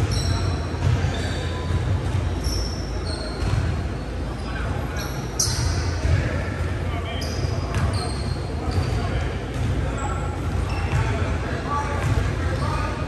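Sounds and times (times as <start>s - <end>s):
players' voices: 0.0s - 13.0s
sneakers squeaking on court: 0.0s - 13.0s.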